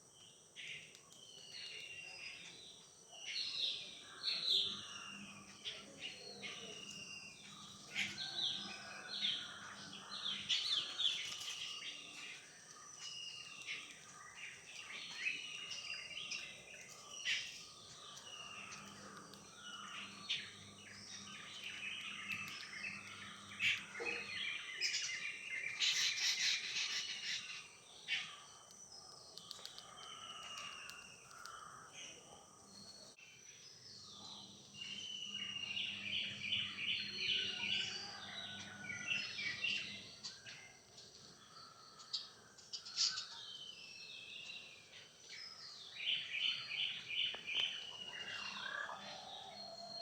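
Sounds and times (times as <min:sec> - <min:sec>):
birds chirping and trilling: 0:00.0 - 0:50.0.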